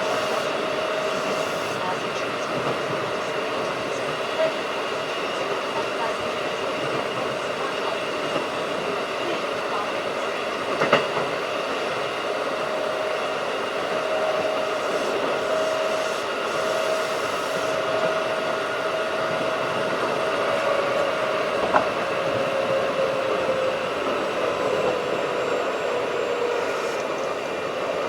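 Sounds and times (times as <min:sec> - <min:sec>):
electric train rumbling: 0:00.0 - 0:28.0
train motor whine: 0:00.0 - 0:28.0.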